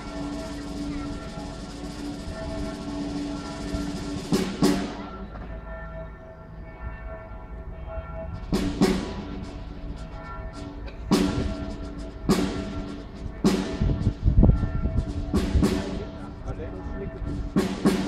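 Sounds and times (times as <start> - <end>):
band playing held chords: 0.0 - 18.0.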